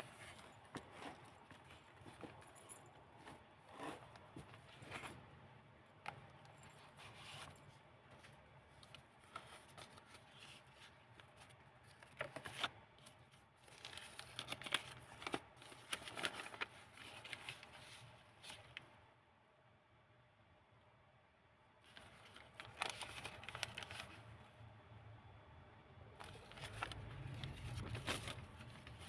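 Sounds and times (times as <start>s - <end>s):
paper pages rustling: 0.0s - 5.3s, 6.1s - 19.0s, 21.8s - 24.3s, 26.2s - 29.0s.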